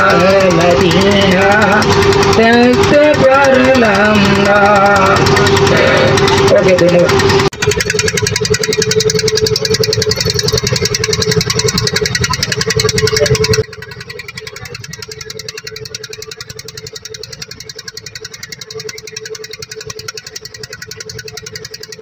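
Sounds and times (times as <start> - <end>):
boat engine chugging: 0.0 - 22.0.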